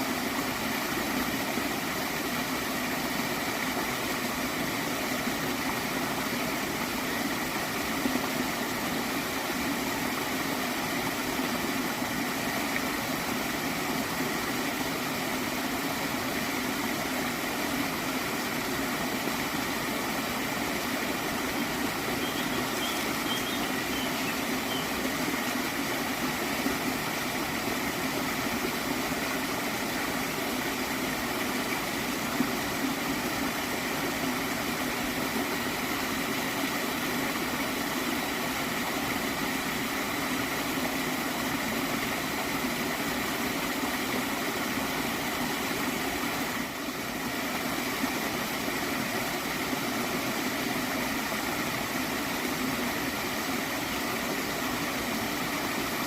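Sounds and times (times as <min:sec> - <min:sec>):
stream gurgling: 0:00.0 - 0:56.0.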